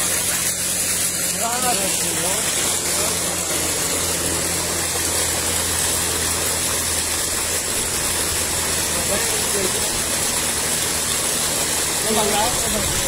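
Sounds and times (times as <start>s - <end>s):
pump humming: 0.0s - 13.0s
water gushing into tank: 0.0s - 13.0s.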